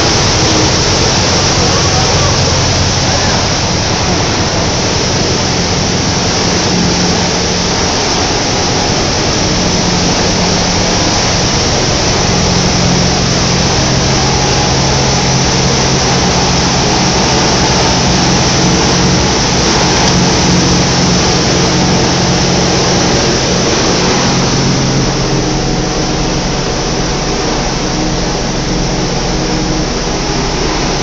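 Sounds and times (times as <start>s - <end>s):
low hum: 0.0s - 31.0s
machinery roaring: 0.0s - 31.0s.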